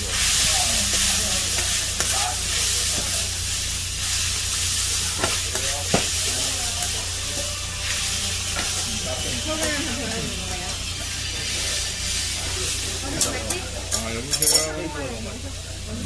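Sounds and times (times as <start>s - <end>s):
pork sizzling on griddle: 0.0s - 16.0s.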